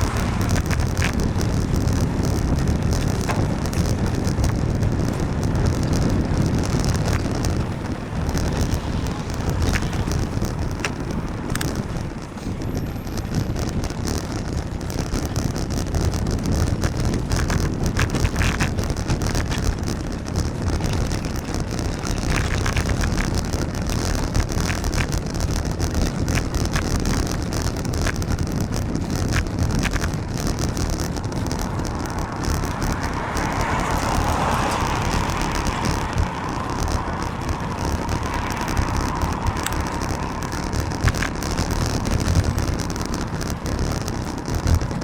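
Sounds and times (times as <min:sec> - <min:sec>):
bicycle road noise on wet road: 0:00.0 - 0:45.0
rain: 0:00.0 - 0:45.0
wind rumble on microphone: 0:00.0 - 0:45.0.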